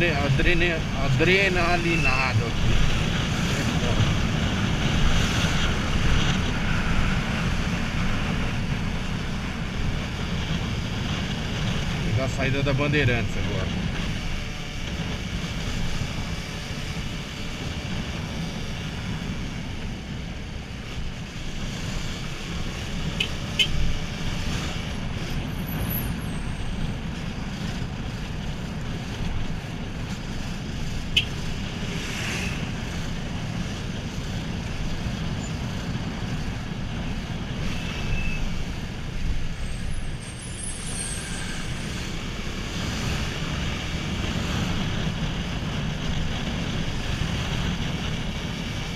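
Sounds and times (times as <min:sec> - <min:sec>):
road traffic: 0:00.0 - 0:48.9
wind rush on microphone: 0:00.0 - 0:48.9.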